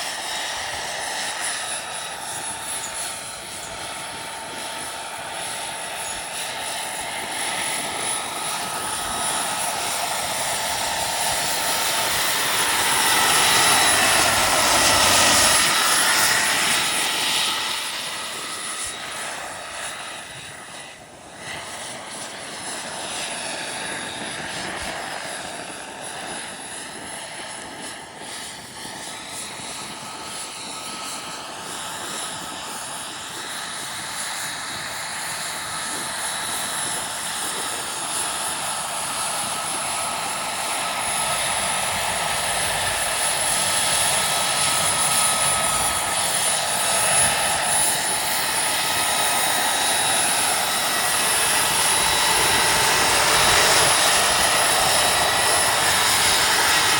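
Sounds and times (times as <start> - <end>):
model helicopter turbine whine: 0.0 - 56.9.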